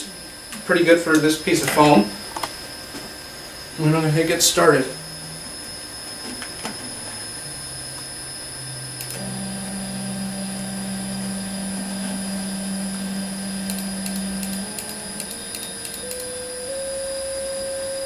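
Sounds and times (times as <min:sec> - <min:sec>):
stepper motors humming: 0:00.0 - 0:18.0.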